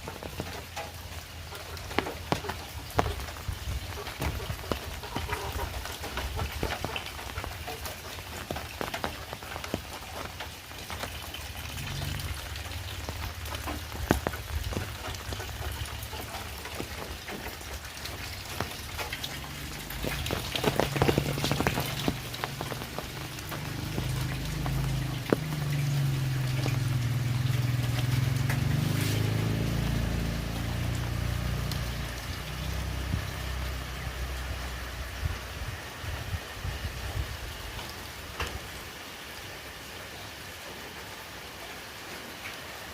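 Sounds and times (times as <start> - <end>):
heavy rain pattering: 0.0 - 42.9.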